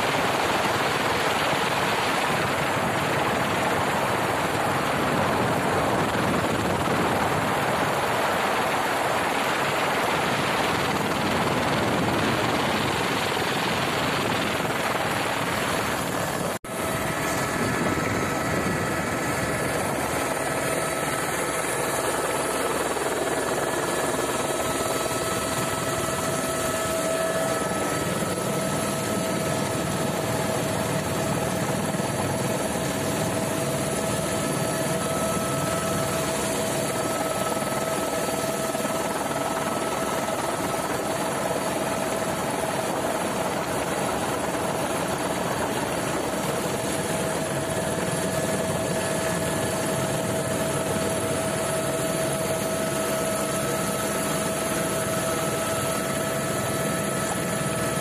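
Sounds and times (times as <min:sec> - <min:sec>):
helicopter engine and rotor noise: 0:00.0 - 0:58.0.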